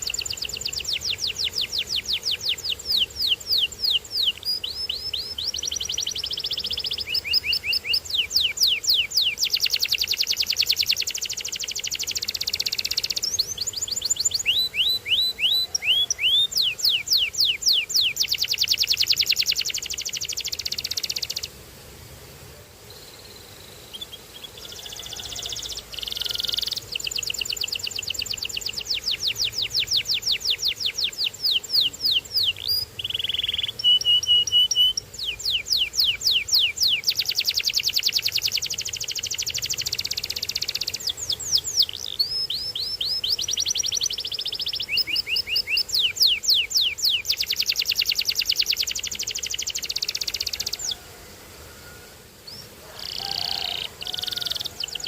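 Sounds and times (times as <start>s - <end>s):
canary singing rapid trills: 0.0s - 21.6s, 23.3s - 51.0s, 52.4s - 55.0s.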